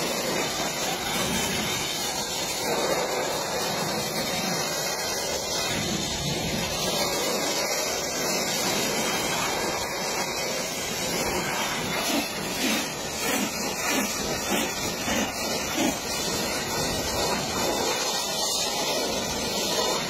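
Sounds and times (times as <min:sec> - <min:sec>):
pressure washer spraying: 0:00.0 - 0:20.0.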